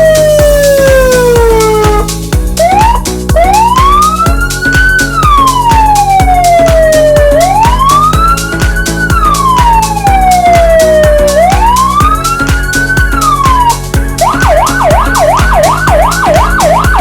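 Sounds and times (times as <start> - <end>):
electronic siren wail: 0.0 - 17.0.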